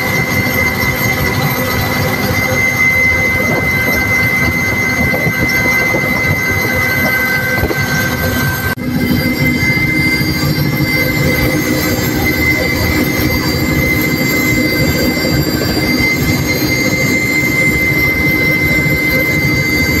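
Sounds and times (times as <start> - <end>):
helicopter rotor low noise: 0.0 - 20.0
helicopter turbine whine: 0.0 - 20.0.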